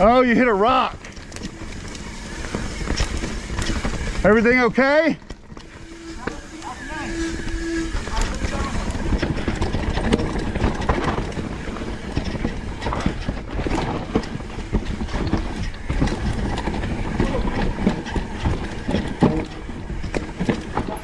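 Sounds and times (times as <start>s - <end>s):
low rolling rumble: 0.0s - 21.0s.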